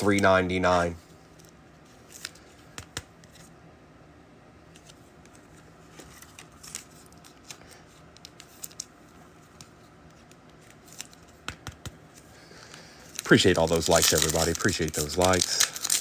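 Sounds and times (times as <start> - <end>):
cards and wrappers handled: 0.0 - 3.5, 4.7 - 16.0.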